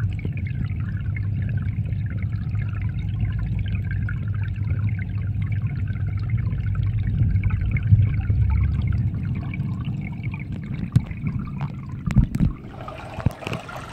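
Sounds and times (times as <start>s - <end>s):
faint water trickling: 0.0s - 13.9s
underwater low rumble: 0.0s - 13.9s.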